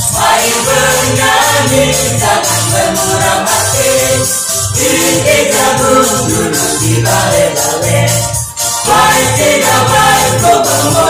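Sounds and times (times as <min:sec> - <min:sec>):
choir singing in harmony: 0:00.0 - 0:11.0
steady low beat: 0:00.0 - 0:11.0.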